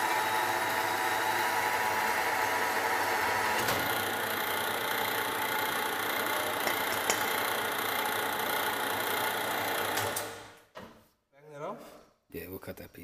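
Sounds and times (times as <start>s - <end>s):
band saw running: 0.0s - 10.4s.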